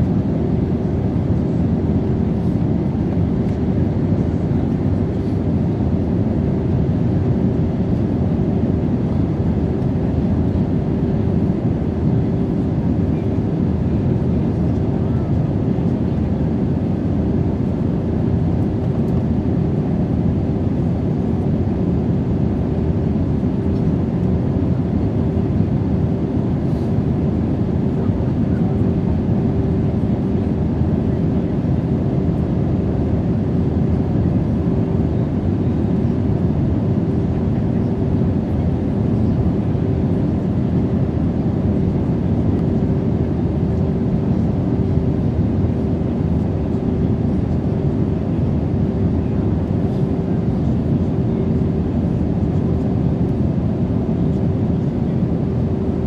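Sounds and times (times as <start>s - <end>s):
airplane cabin engine rush: 0.0s - 56.0s
mid-pitched hum: 0.0s - 56.0s.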